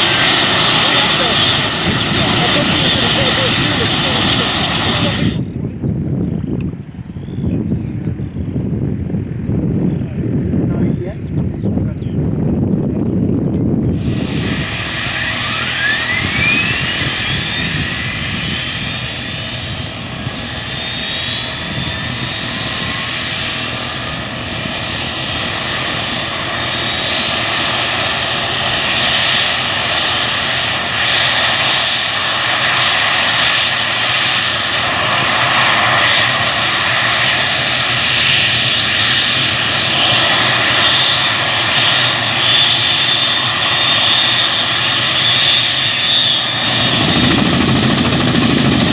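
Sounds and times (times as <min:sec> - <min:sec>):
helicopter turbine whine: 0:00.0 - 0:48.9.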